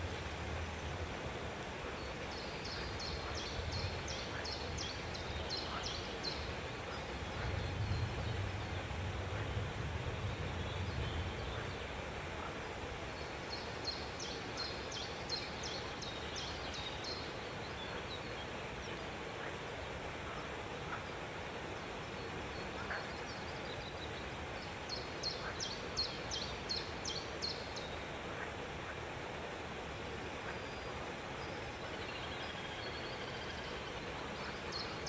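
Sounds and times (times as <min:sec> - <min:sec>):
background hiss: 0:00.0 - 0:35.0.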